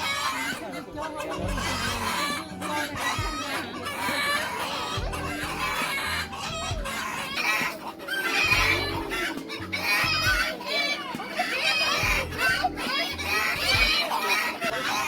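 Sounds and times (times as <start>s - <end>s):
background music with deep thuds: 0.0s - 15.0s
chickens clucking: 0.0s - 15.0s
roosters crowing: 0.0s - 15.0s.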